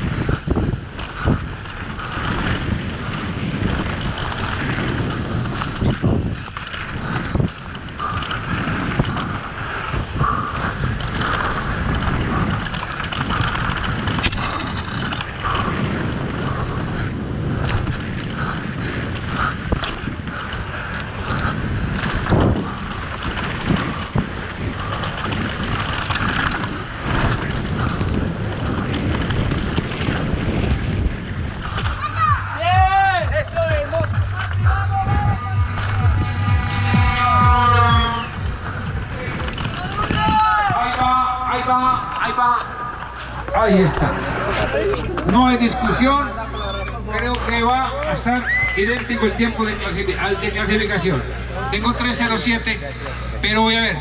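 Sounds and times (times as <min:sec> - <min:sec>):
wind noise on microphone: 0:00.0 - 0:47.4
bike tyres rolling over dirt: 0:00.0 - 0:54.0.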